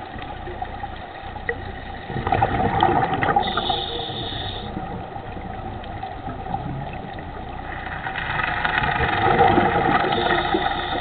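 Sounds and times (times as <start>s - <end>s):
muffled rushing water: 0.0s - 11.0s.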